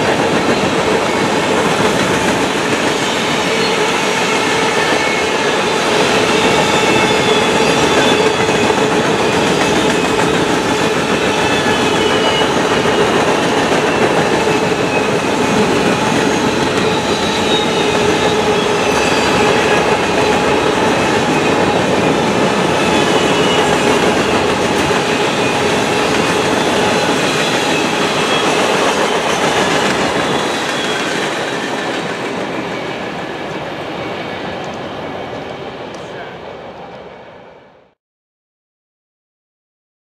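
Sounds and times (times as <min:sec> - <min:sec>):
steel wheels squealing on rails: 0:00.0 - 0:37.1
freight train rolling past: 0:00.0 - 0:38.0.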